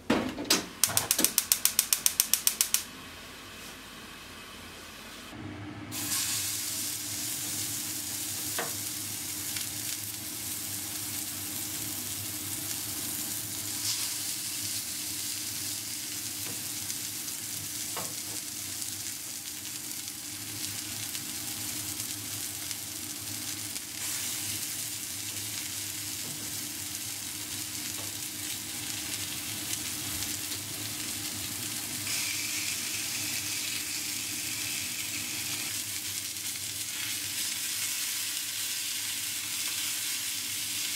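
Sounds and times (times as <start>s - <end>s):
patties sizzling in oil: 5.9s - 40.9s.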